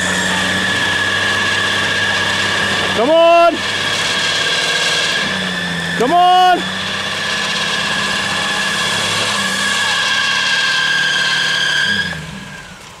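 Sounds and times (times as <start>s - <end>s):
engine idling: 0.0s - 11.6s
alternator belt squealing: 0.0s - 13.0s.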